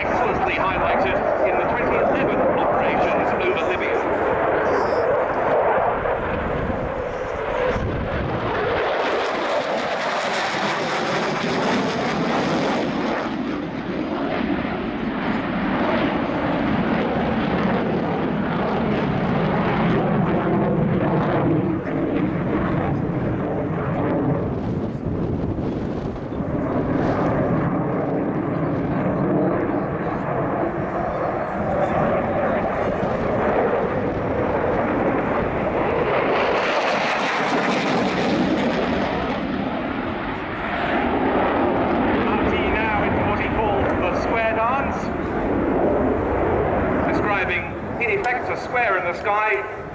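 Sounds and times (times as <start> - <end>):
loud fighter jet noise: 0.0 - 49.9.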